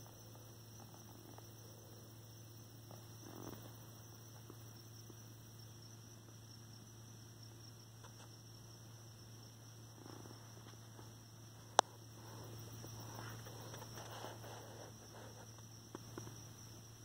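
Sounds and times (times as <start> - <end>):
crickets chirping: 0.0 - 17.0
low steady hum: 0.0 - 17.0.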